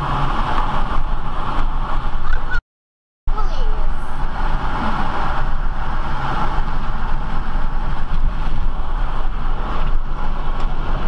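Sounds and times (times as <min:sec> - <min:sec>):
car road and wind noise: 0:00.0 - 0:02.6, 0:03.3 - 0:11.0.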